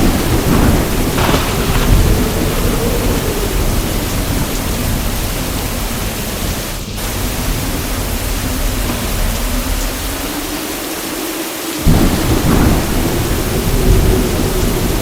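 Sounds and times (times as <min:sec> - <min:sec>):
heavy rain: 0:00.0 - 0:15.0
thunder rumble: 0:00.0 - 0:15.0.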